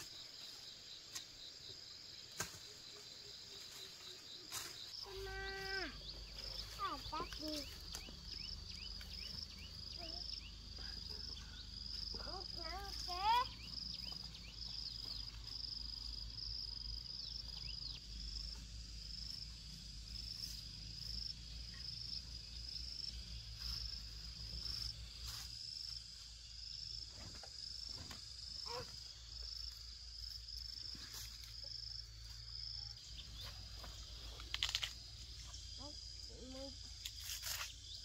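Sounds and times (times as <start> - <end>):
insect chirping: 0.0 - 38.0.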